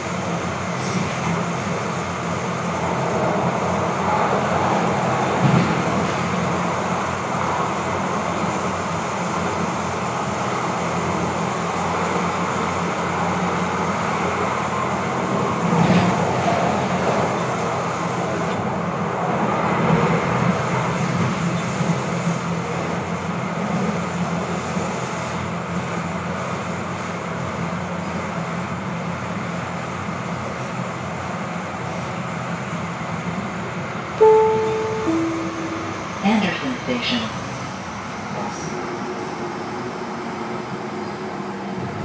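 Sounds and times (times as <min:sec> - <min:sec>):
train wheels rumbling on rail: 0:00.0 - 0:34.2, 0:36.0 - 0:42.0.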